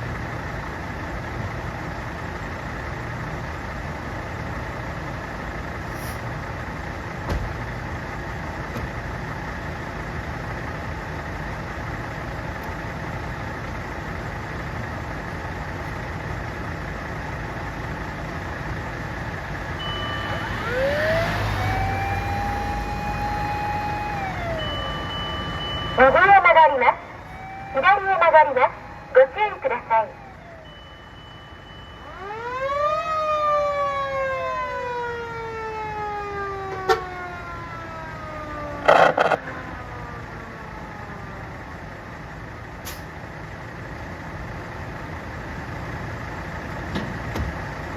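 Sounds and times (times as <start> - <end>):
fire engine siren: 0.0 - 46.4
fire engine idling: 0.0 - 47.9.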